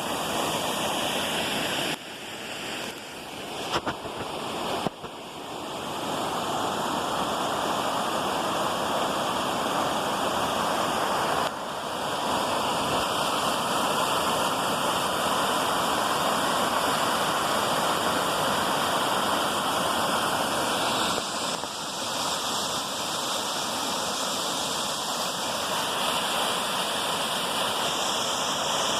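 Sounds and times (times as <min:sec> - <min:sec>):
waterfall pouring and splashing: 0:00.0 - 0:28.9.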